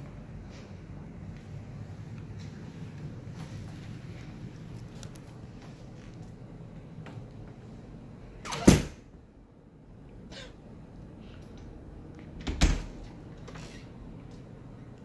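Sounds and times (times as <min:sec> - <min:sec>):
low steady room hum: 0:00.0 - 0:15.0.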